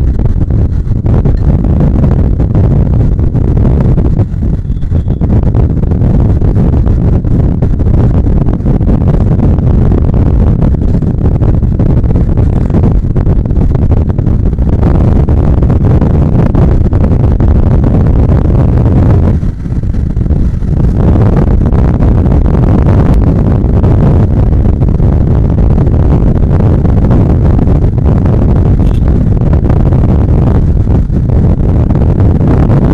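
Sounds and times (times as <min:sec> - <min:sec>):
motorcycle running: 0:00.0 - 0:32.9
wind buffeting microphone: 0:00.0 - 0:32.9.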